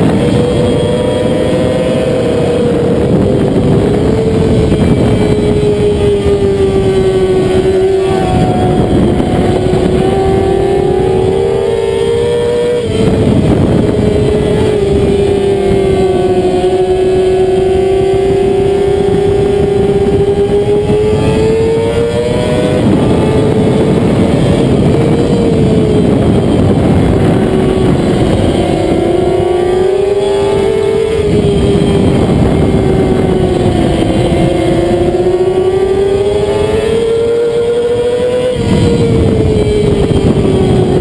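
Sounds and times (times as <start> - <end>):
motorcycle engine at high revs: 0.0 - 41.0
wind rushing: 0.0 - 41.0.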